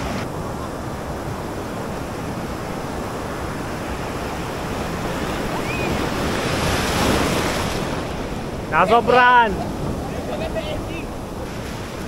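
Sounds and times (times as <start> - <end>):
ocean waves breaking on beach: 0.0 - 12.0.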